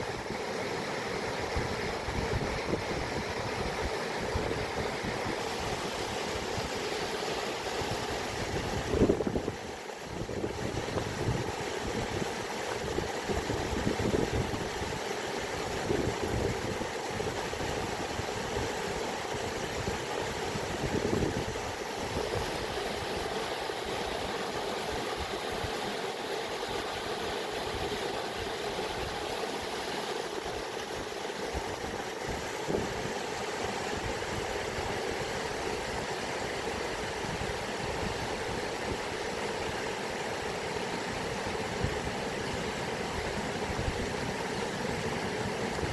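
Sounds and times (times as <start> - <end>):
water flowing: 0.0 - 45.9.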